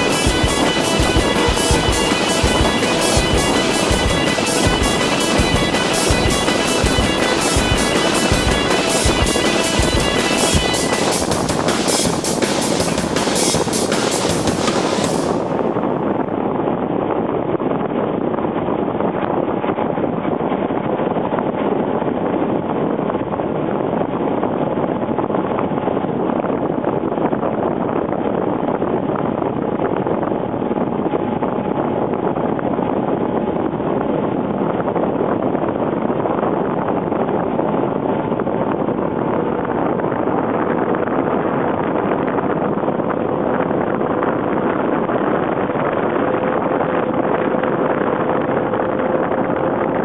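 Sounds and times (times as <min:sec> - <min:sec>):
wind on microphone: 0:00.0 - 0:50.0.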